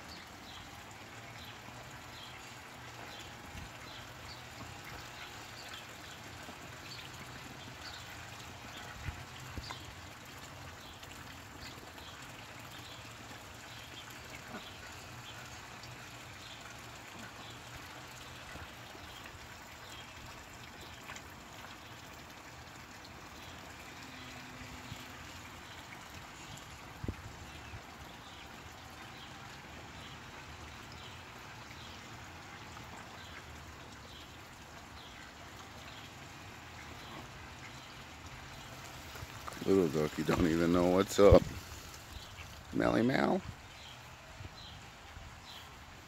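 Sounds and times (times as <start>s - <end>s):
ducks dabbling and splashing: 0.0s - 46.0s.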